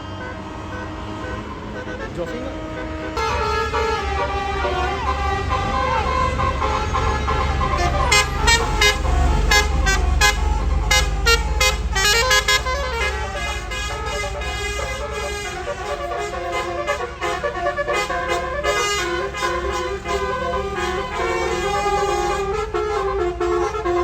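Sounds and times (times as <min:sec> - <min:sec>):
bus engine running: 0:00.0 - 0:24.0
bus horn playing melody: 0:00.0 - 0:24.0
quick short horn blasts: 0:01.2 - 0:24.0.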